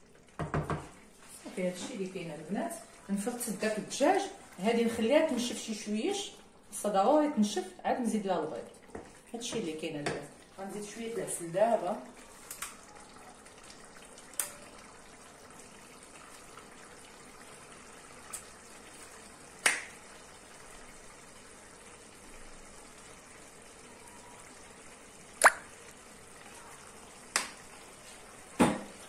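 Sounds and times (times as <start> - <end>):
pots simmering: 0.0 - 29.0.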